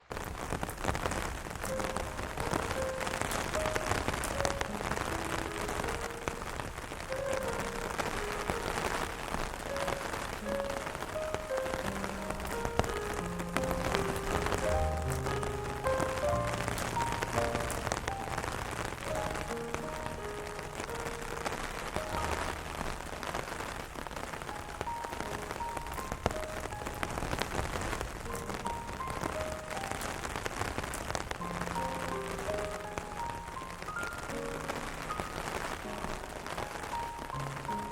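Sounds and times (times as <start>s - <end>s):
soft slow piano melody: 0.0s - 37.9s
steady rain falling: 0.0s - 37.9s.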